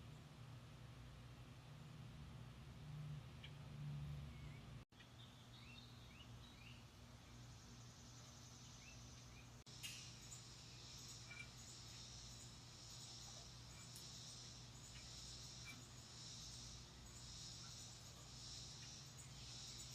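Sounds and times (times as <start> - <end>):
faint birds chirping: 0.0 - 19.9
steady low hum: 0.0 - 19.9.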